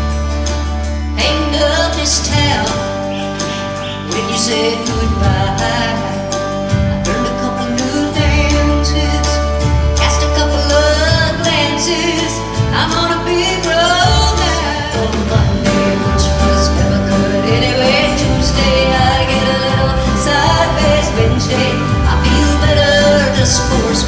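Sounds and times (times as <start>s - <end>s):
acoustic guitar: 0.0s - 24.0s
drums: 0.0s - 24.0s
electric bass: 0.0s - 24.0s
woman singing: 1.2s - 3.4s, 4.0s - 24.0s.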